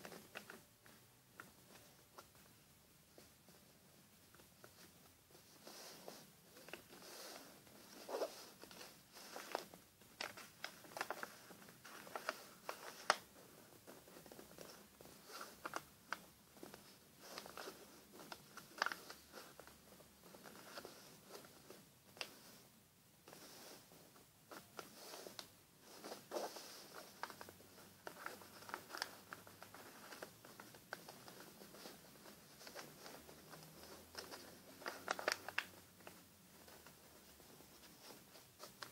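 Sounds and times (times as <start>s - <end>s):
paper rustling and crinkling: 4.3s - 22.6s, 24.5s - 38.9s.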